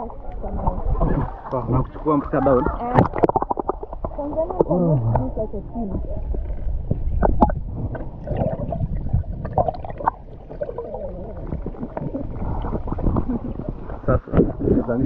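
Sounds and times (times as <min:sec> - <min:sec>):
underwater rumble and gurgling: 0:00.0 - 0:15.0.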